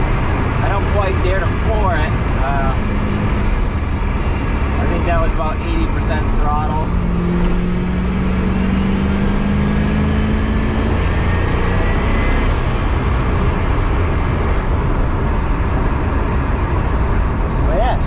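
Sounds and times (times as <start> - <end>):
car engine: 0.0 - 18.0
road noise in car cabin: 0.0 - 18.0.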